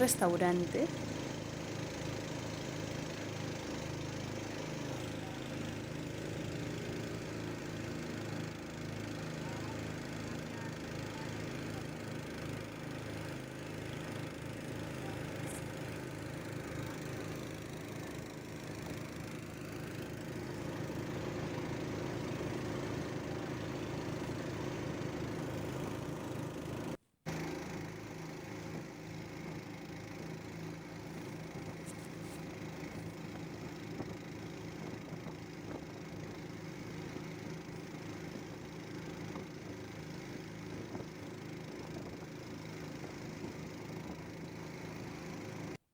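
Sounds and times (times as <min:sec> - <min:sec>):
boat motor running: 0:00.0 - 0:45.7.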